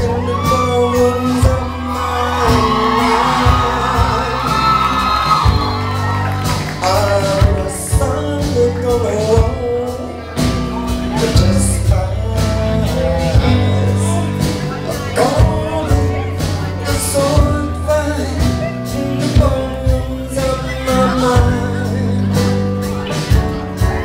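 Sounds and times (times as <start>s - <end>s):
man singing into microphone: 0.0s - 5.6s, 6.6s - 24.0s
drums: 0.0s - 24.0s
electric guitars: 0.0s - 24.0s.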